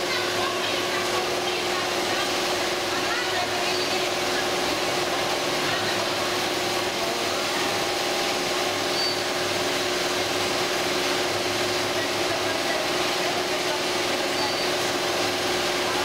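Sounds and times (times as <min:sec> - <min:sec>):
quilting machine running: 0:00.0 - 0:16.0.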